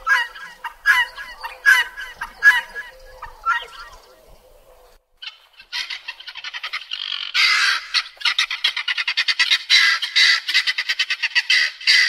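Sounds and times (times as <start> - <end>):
birds squawking: 0.0 - 12.0.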